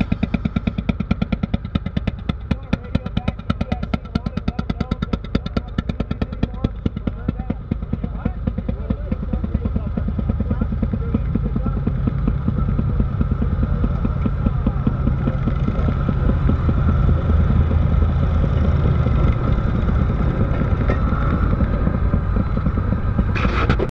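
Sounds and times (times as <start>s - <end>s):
small engines puttering: 0.0s - 23.9s.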